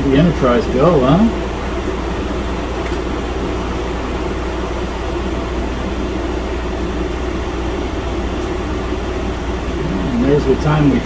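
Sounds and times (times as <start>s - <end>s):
computer cooling fans whirring: 0.0s - 11.0s
low hum: 0.0s - 11.0s.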